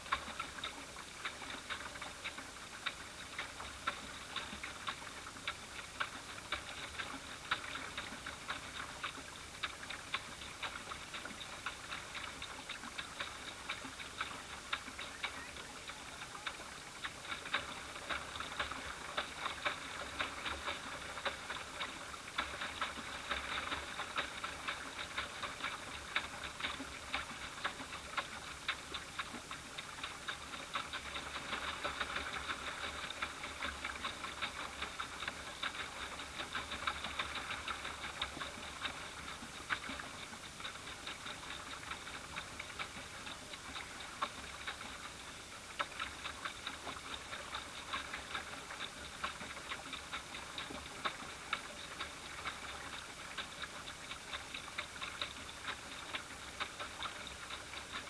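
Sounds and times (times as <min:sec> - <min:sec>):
water lapping against hull: 0:00.0 - 0:58.0.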